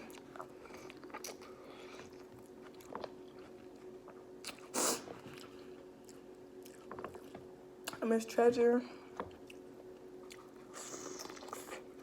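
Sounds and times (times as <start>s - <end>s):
chewing and biting food: 0.0s - 8.0s, 9.3s - 12.0s.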